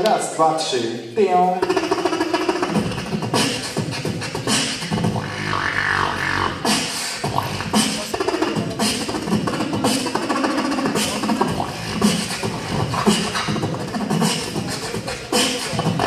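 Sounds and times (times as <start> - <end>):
person beatboxing: 1.1 - 16.0.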